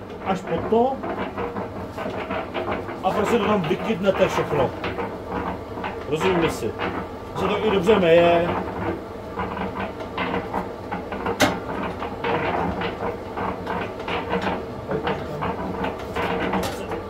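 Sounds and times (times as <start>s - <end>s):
concrete mixer gears clattering: 0.0s - 17.0s
motor hum: 0.0s - 17.0s.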